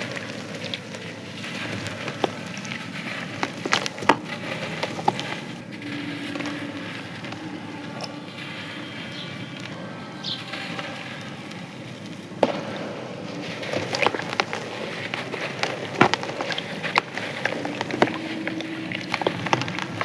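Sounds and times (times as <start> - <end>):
sand-cement chunks crushed and crumbling: 0.0 - 20.0.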